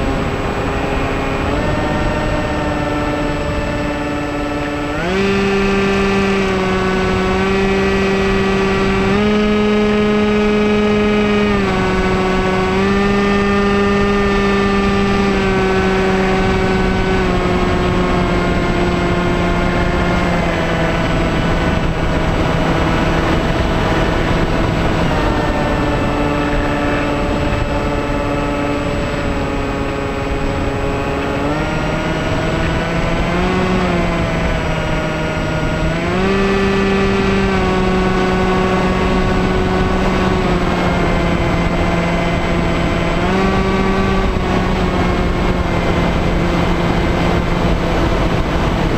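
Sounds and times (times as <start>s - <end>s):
model plane motor buzzing whine: 0.0s - 48.9s
wind noise: 0.0s - 48.9s.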